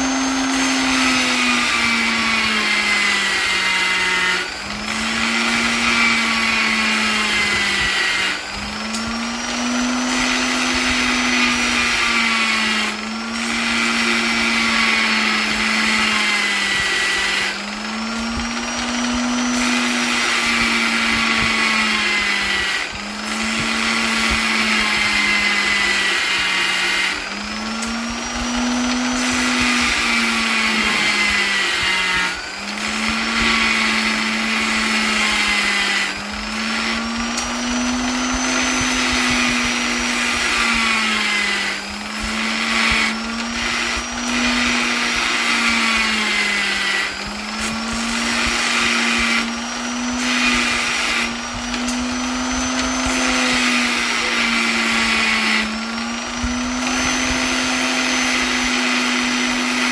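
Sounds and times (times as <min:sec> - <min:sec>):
electric polisher motor humming: 0:00.0 - 0:59.9.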